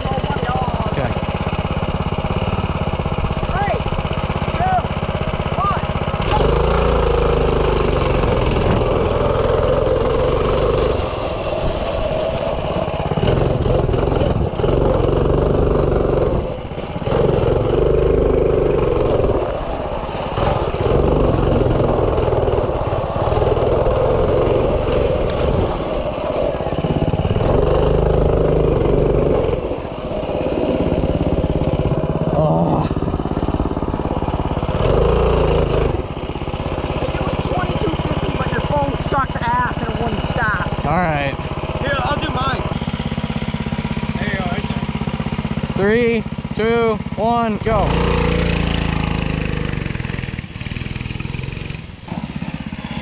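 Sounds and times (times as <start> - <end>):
small engine running hard: 0.0 - 53.0.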